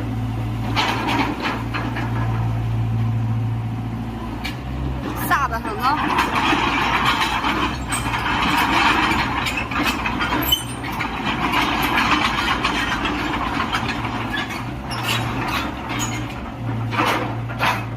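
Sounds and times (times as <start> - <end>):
excavator diesel engine running: 0.0 - 17.9.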